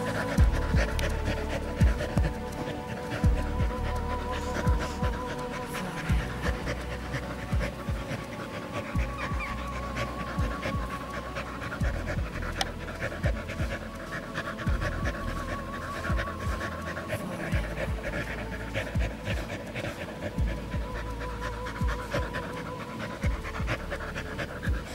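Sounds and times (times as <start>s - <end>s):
dog panting: 0.0s - 24.9s.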